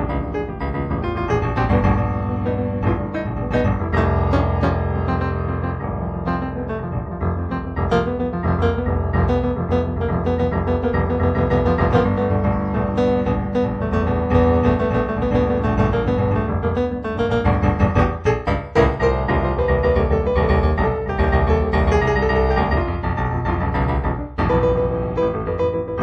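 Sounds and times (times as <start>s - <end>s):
improvised piano music: 0.0s - 26.0s.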